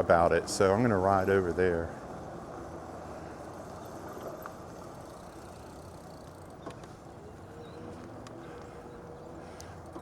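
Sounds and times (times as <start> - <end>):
bicycle tyre noise: 0.0 - 10.0.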